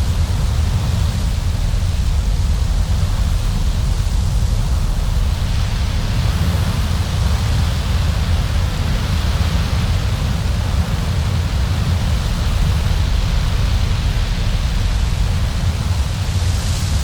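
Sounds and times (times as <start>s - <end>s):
storm wind blowing: 0.0s - 17.0s.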